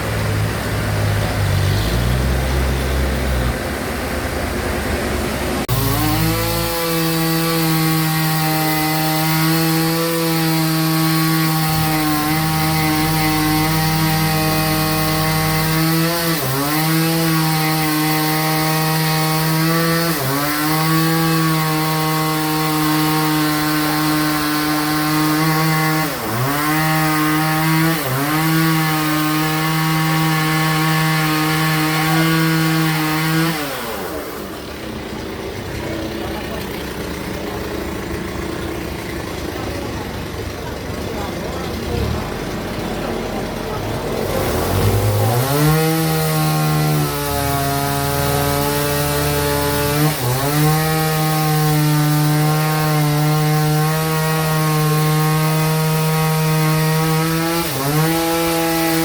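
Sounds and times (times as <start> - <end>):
bandsaw cutting log: 5.4 - 59.0.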